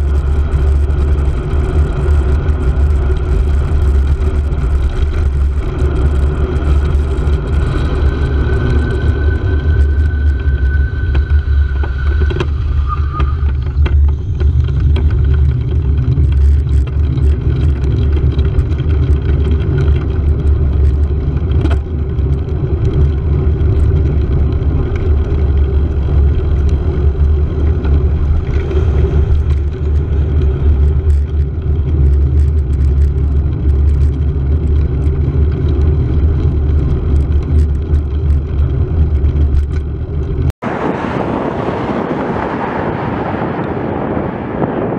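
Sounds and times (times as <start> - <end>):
wind and road noise rumble: 0.0 - 44.9.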